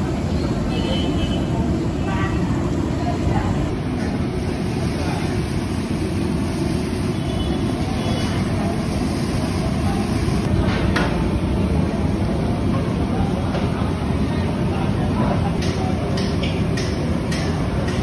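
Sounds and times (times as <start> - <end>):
batter frying in hot oil: 0.1 - 18.0.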